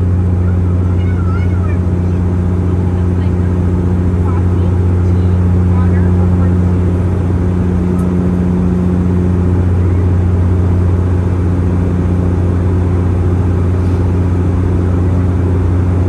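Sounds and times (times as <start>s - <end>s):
propeller engine drone: 0.0s - 16.0s.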